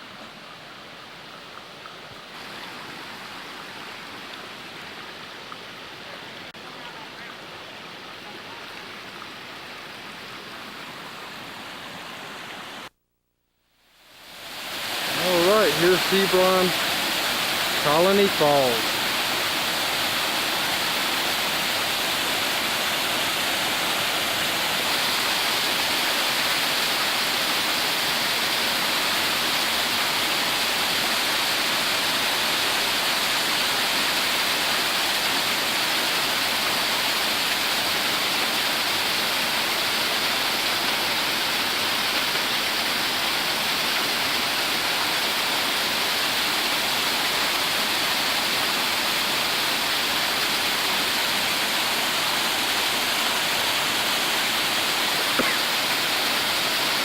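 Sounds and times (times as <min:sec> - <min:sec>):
waterfall rushing: 0:02.2 - 0:12.9, 0:14.1 - 0:57.0.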